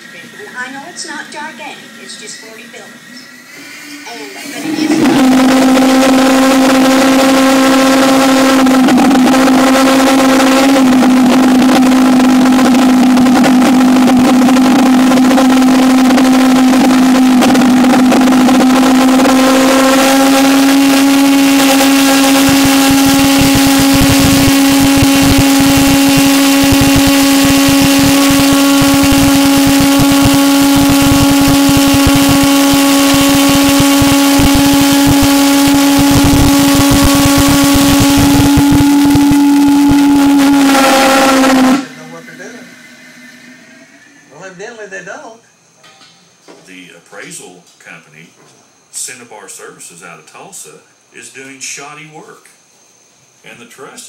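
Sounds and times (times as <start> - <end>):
pulse jet engine buzzing drone: 0.0 - 44.8.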